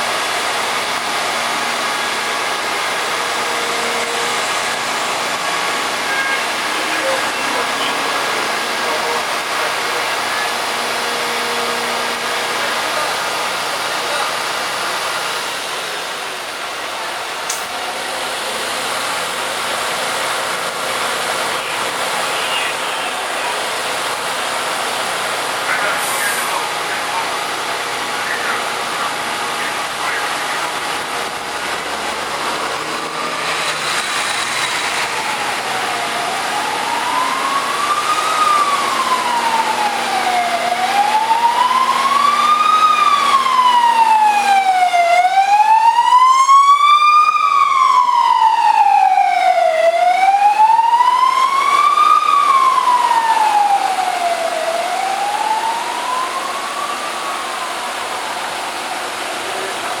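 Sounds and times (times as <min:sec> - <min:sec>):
fire engine siren wailing: 0:00.0 - 1:00.0.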